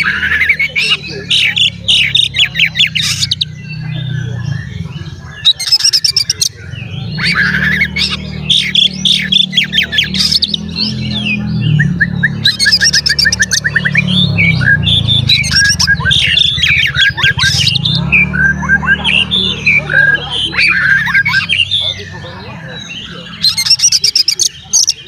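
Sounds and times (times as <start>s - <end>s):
songbird whistling song: 0.0s - 25.0s.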